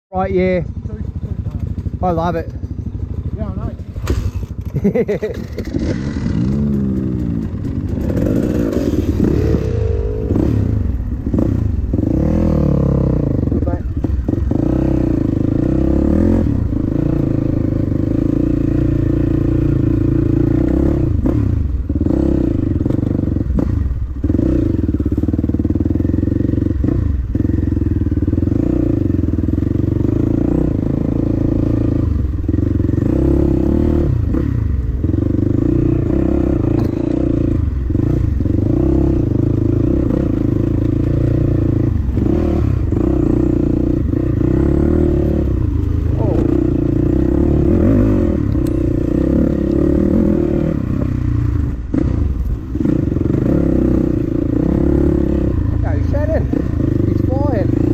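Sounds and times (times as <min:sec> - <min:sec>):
dirt bike engine revving: 0:03.3 - 0:57.9.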